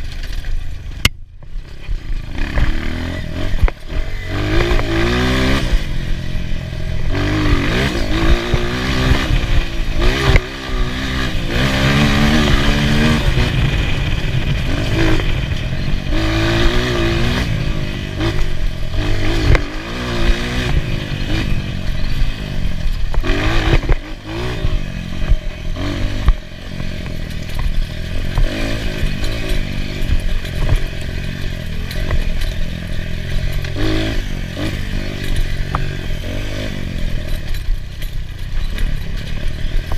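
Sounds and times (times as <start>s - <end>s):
motorcycle engine revving: 0.0s - 39.9s
knocks and rattles: 6.8s - 39.9s.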